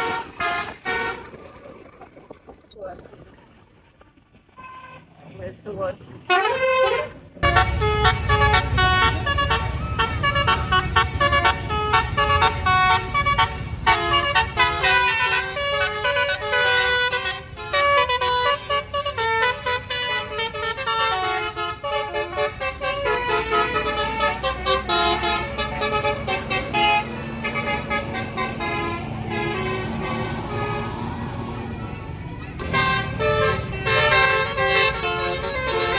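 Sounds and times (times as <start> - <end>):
musical air horn tune: 0.0 - 1.3, 6.3 - 32.0, 32.6 - 35.9
low engine rumble: 0.0 - 35.9.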